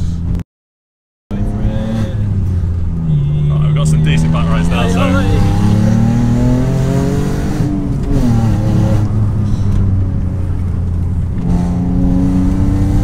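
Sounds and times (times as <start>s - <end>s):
car engine from inside cabin: 1.3s - 13.0s.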